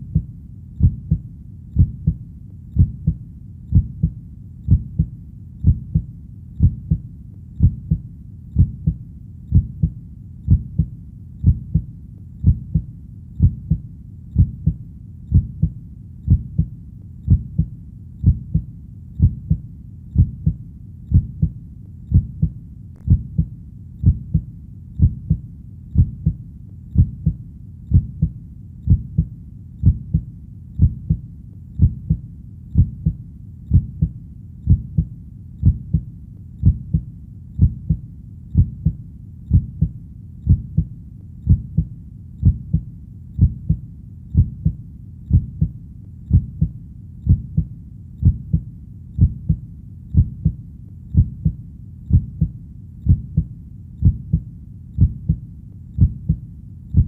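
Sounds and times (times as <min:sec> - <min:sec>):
heartbeat: 0:00.0 - 0:57.0.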